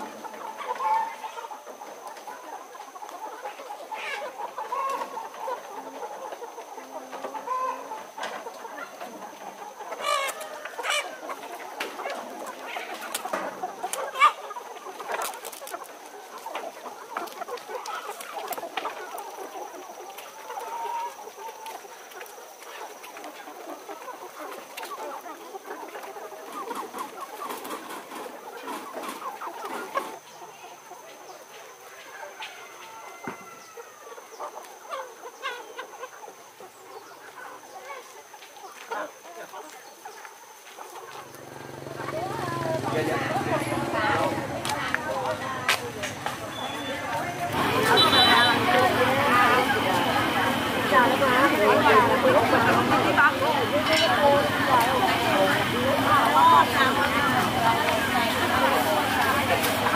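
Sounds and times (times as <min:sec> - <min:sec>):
chickens clucking and calling: 0:00.0 - 0:59.9.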